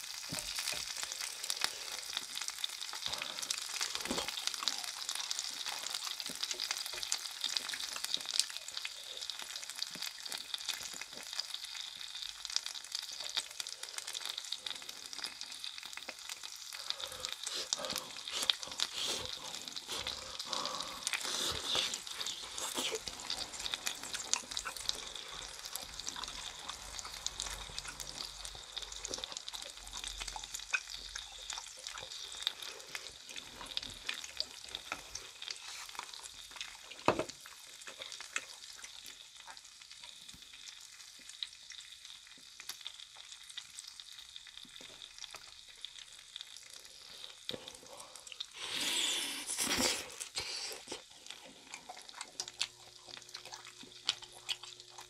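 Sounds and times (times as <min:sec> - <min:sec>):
skewers sizzling on a grill: 0:00.0 - 0:55.0.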